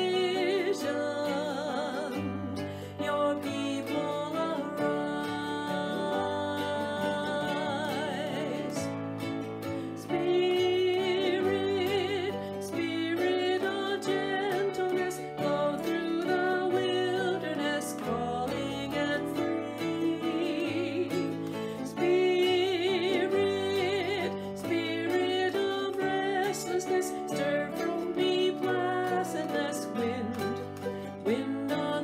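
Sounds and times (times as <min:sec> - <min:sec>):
woman singing a hymn: 0:00.0 - 0:08.9, 0:09.9 - 0:32.0
ukulele strumming: 0:00.0 - 0:32.0.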